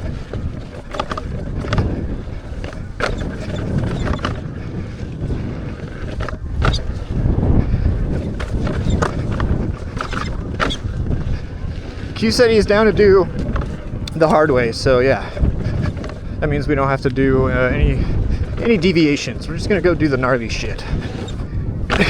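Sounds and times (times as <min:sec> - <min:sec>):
electric unicycle rumble: 0:00.0 - 0:22.0
wind buffeting microphone: 0:00.0 - 0:22.0.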